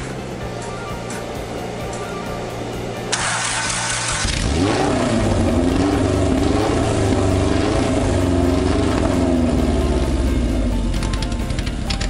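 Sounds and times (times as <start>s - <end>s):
loud engine running unevenly: 0.0s - 12.0s.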